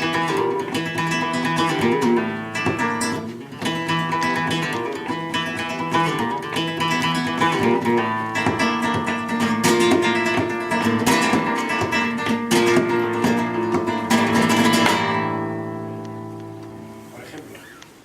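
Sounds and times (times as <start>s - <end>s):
flamenco acoustic guitar: 0.0s - 18.0s.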